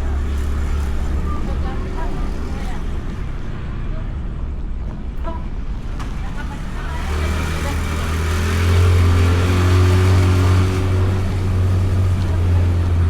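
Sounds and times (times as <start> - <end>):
scooter engine running: 0.0 - 3.4, 5.8 - 13.0.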